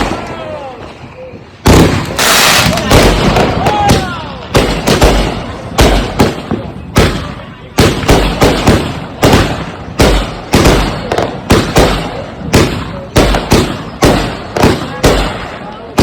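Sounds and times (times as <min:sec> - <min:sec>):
firework bangs with echo: 0:00.0 - 0:00.6, 0:01.6 - 0:16.0.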